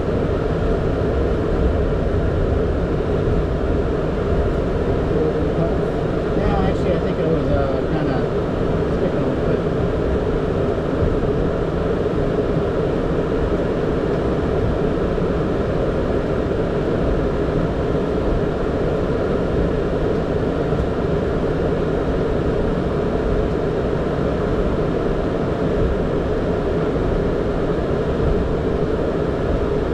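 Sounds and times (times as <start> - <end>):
airplane cockpit hum: 0.0 - 29.9.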